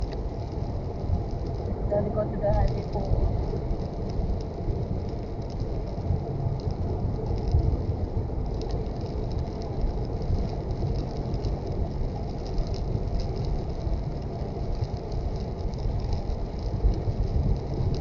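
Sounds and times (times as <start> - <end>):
rain ticking: 0.0 - 18.0
road and engine rumble: 0.0 - 18.0.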